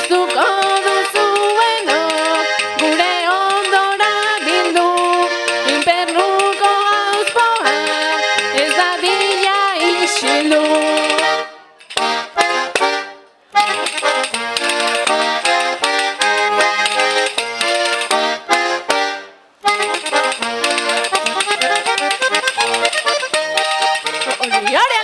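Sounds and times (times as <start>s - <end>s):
button accordion playing chords: 0.0s - 25.0s.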